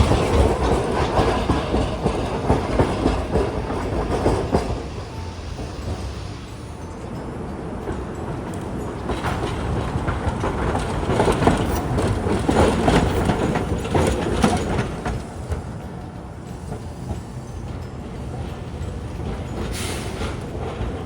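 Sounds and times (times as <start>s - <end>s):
streetcar wheels clacking over rail joints: 0.0s - 21.0s.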